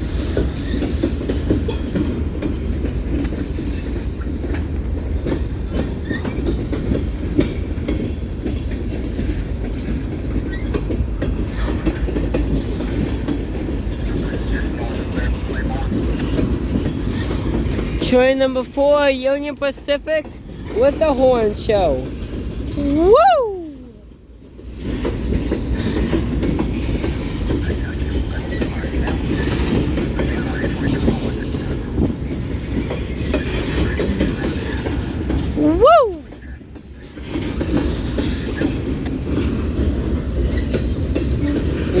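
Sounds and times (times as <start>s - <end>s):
freight train rumbling past: 0.0s - 42.0s
wheels clattering on rails: 0.0s - 42.0s.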